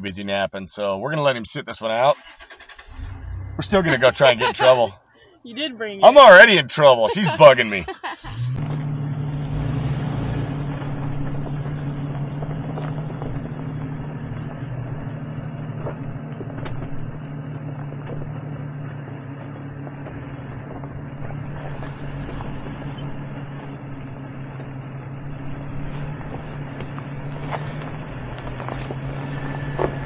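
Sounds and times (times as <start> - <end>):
engine running low hum: 2.2 - 30.0.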